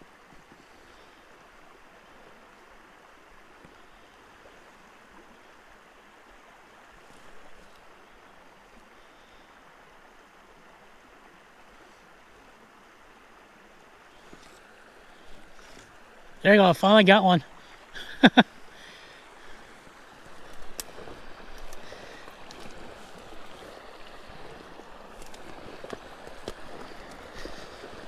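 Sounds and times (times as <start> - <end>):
creek water flowing: 0.0 - 28.0.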